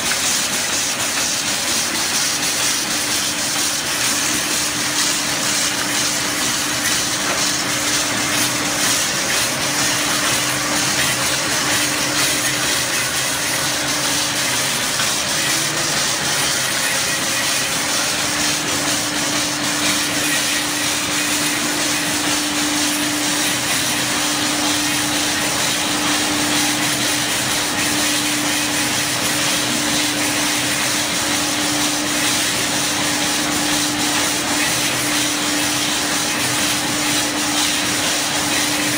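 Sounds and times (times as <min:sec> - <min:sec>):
hiss of machining: 0:00.0 - 0:38.9.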